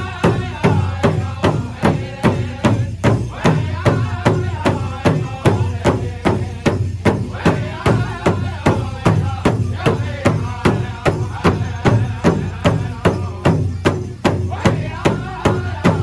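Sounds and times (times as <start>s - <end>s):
group singing: 0.0s - 16.0s.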